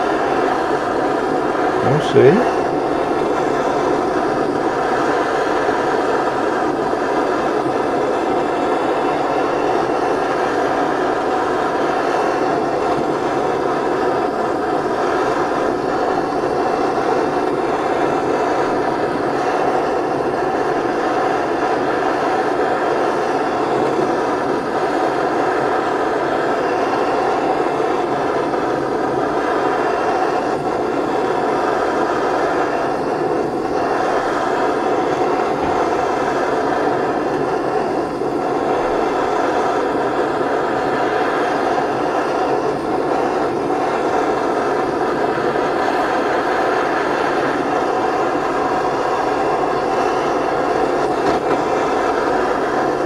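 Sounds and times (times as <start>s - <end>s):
blowtorch roaring: 0.0s - 53.0s.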